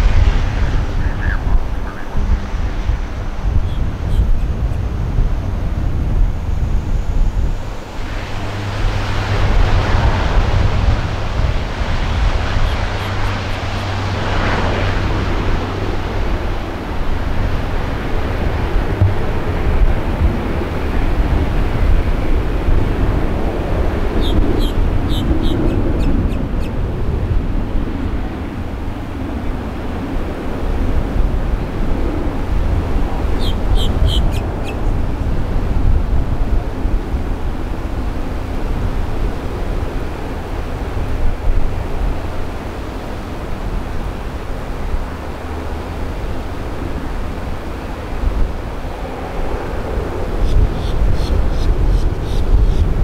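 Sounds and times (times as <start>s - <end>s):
rushing propeller noise: 0.0s - 52.4s
turboprop engines droning: 0.0s - 53.0s.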